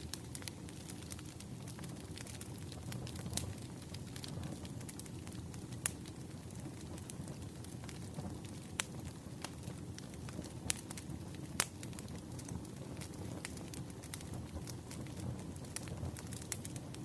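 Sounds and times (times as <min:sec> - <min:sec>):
fire crackles and pops: 0:00.0 - 0:17.0
firewood burning: 0:00.0 - 0:17.0.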